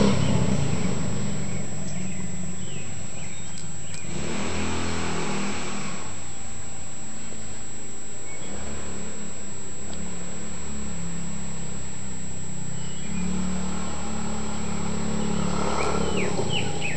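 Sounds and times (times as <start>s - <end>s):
small engine running: 0.0s - 6.4s, 8.2s - 16.9s.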